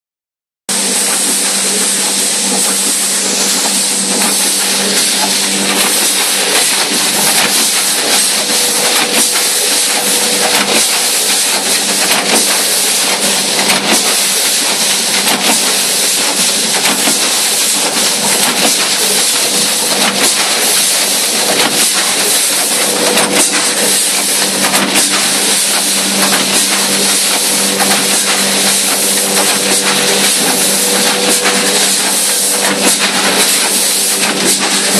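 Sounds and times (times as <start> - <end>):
machine clicks and knocks: 0.7 - 34.9
machine hiss: 0.7 - 34.9
machine hum: 0.7 - 34.9.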